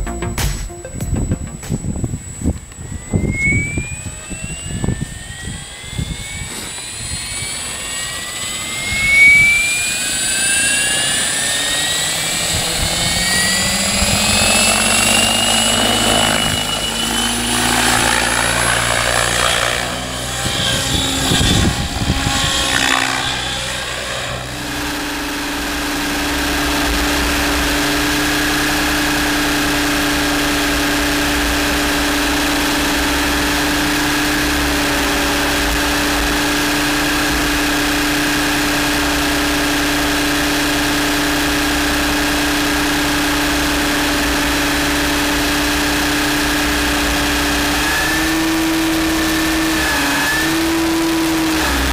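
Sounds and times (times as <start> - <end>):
model helicopter rotor whine: 1.9 - 51.9.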